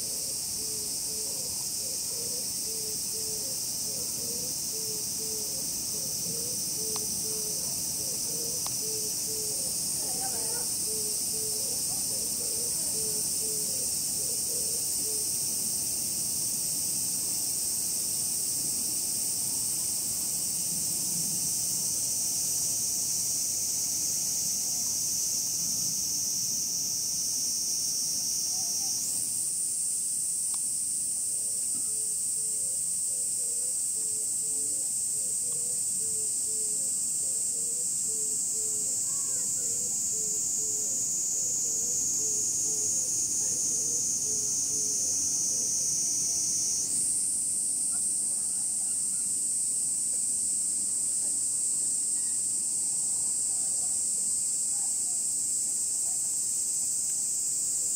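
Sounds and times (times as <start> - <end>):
cicadas buzzing: 0.0 - 57.9.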